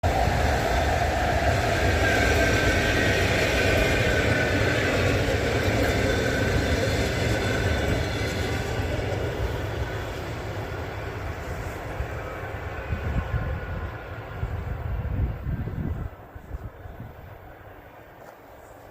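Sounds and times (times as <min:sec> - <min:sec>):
train passing on rails: 0:00.0 - 0:18.9.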